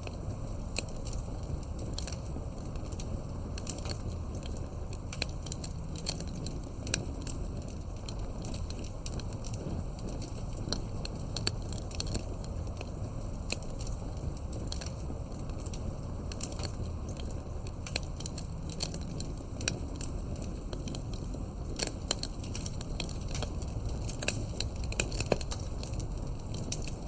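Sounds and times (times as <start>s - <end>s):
burning wood crackling and popping: 0.0s - 27.0s
flames low noise: 0.0s - 27.0s.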